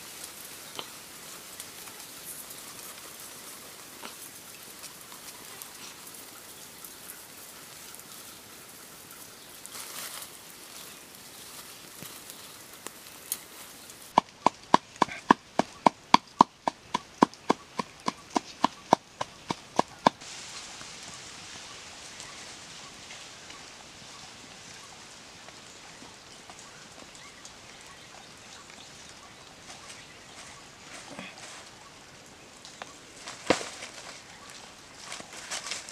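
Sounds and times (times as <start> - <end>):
faint outdoor background: 0.0 - 35.9.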